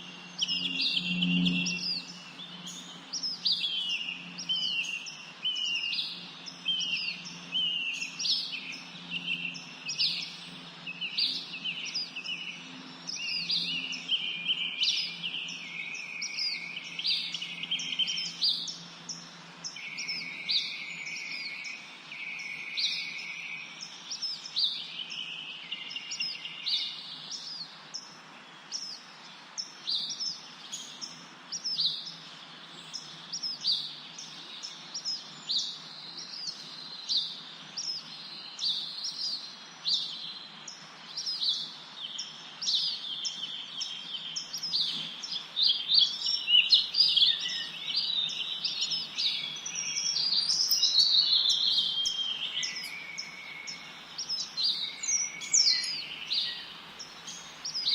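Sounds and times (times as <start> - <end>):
bird warbling song: 0.0 - 57.9
songbirds chirping: 0.0 - 57.9.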